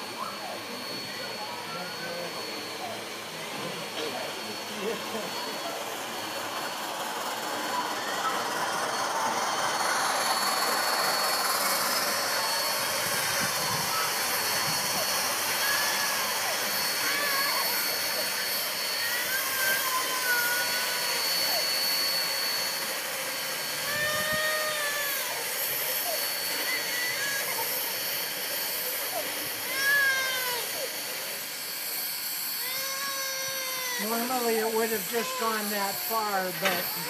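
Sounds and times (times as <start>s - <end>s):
steam locomotive hissing: 0.0s - 37.0s
thin high whine: 0.0s - 37.0s.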